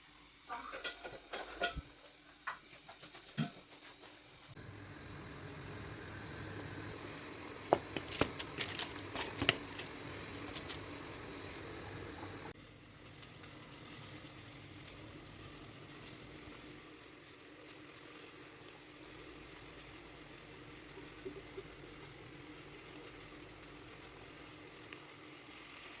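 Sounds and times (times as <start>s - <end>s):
chicken sizzling in a pan: 4.6s - 26.0s.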